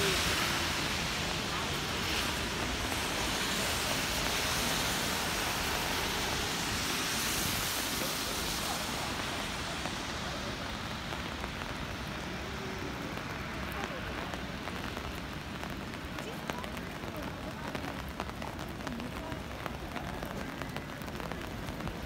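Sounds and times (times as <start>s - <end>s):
car tyres hissing on wet road: 0.0s - 22.0s
rain falling on wet streets: 0.0s - 22.0s.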